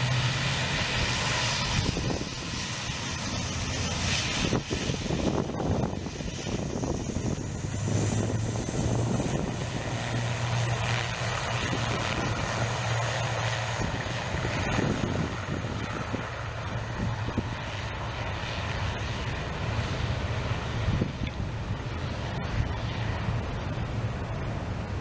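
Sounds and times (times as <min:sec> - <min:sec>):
turboprop engines droning: 0:00.0 - 0:25.0.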